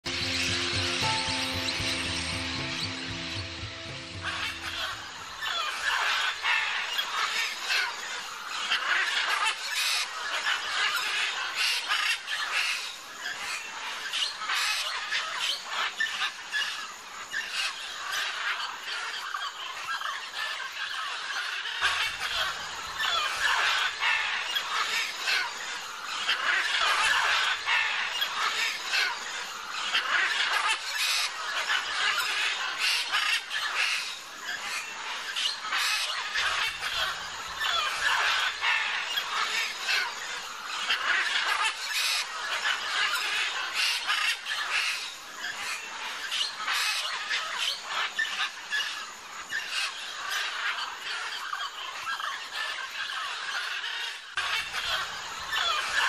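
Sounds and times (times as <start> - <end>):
flock of macaws squawking: 0.1 - 56.0.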